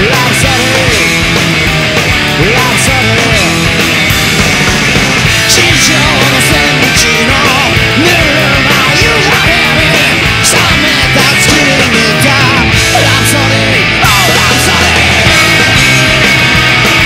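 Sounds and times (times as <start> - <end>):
punk rock band playing: 0.0 - 17.0
sliding guitar notes: 0.5 - 17.0.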